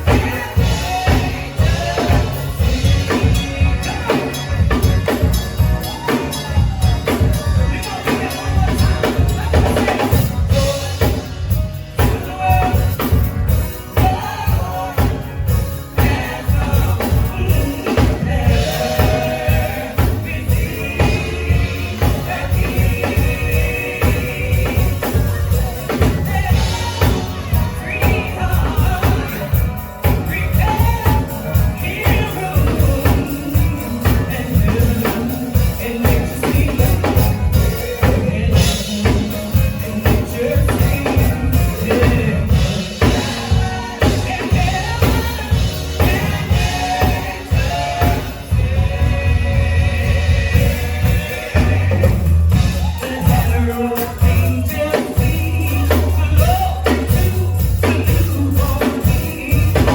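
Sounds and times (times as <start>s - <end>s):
live band with singer: 0.0s - 59.9s
steady drum beat: 0.0s - 59.9s.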